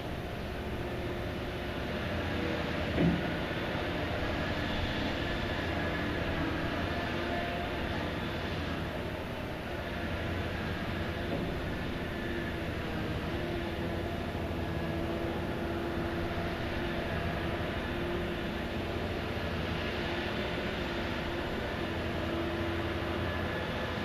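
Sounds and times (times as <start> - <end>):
heavy diesel machinery droning: 0.0 - 24.0.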